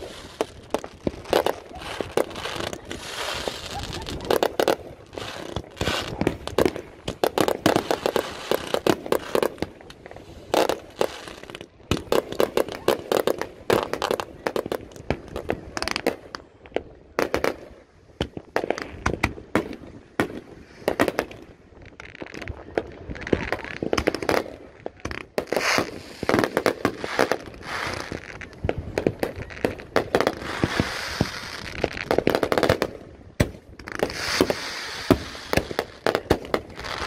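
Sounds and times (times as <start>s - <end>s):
fireworks bangs and pops: 0.0s - 37.0s.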